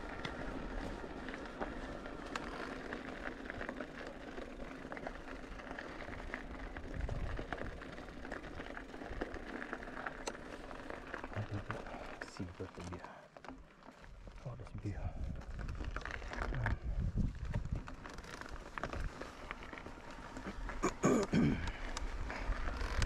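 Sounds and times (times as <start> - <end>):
bike clicks and rattles: 0.0 - 23.0
bike tyres on loose stones: 0.0 - 23.0.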